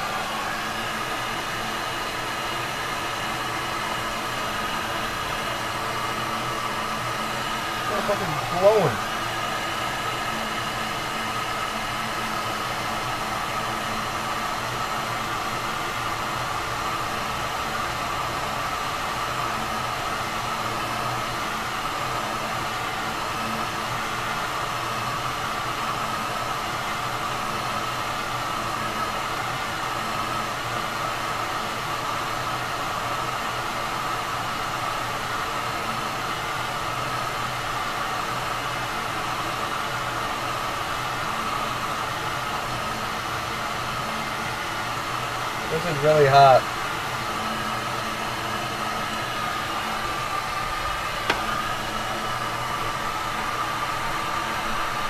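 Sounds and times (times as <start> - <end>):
fan motor whine: 0.0 - 55.0.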